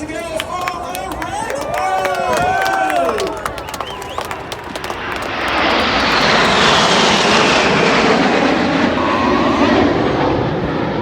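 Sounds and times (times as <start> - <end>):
jets flying past roaring: 0.0 - 11.0.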